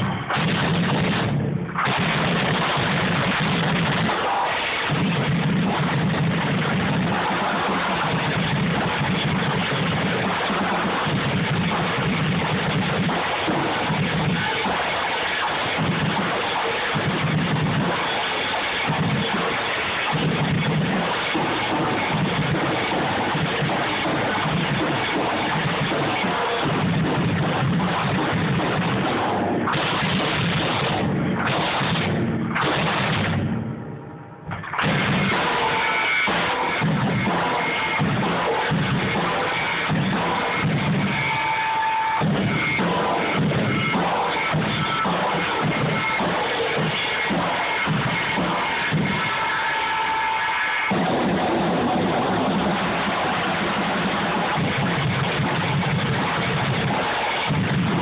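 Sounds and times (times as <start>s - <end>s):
loud drumming with music: 0.0s - 33.9s, 34.5s - 58.0s.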